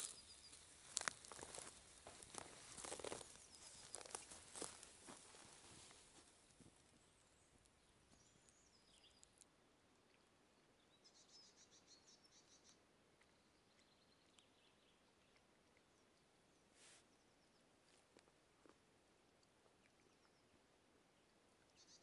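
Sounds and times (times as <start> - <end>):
songbird singing: 0.0 - 17.8, 19.8 - 22.0.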